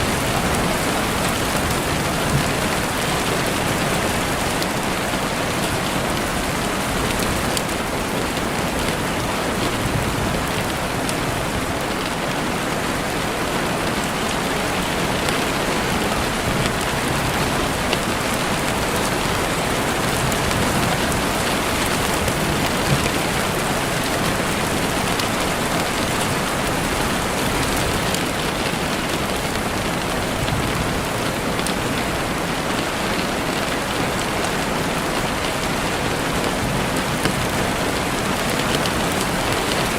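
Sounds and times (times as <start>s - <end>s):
heavy rain on window: 0.0s - 39.9s.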